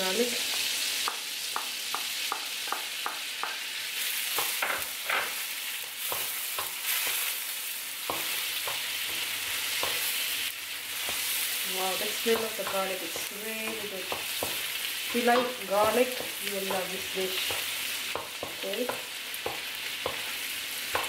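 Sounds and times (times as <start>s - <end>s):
garlic sizzling in butter: 0.0s - 21.0s.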